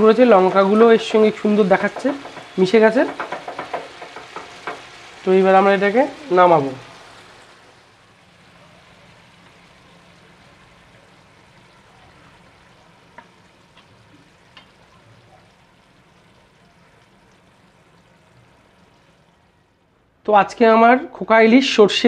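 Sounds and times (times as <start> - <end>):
curry simmering in a pan: 0.0 - 20.0.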